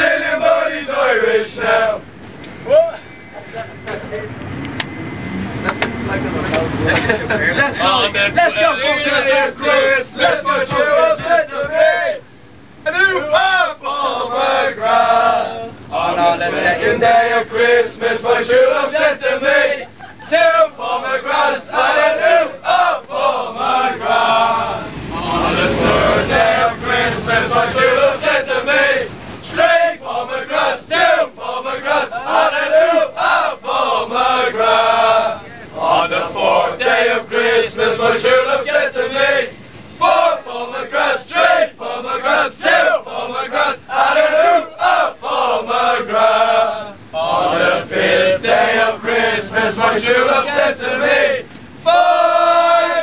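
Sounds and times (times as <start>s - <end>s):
football supporters chanting and singing: 0.0s - 2.2s, 7.7s - 12.2s, 13.1s - 53.0s.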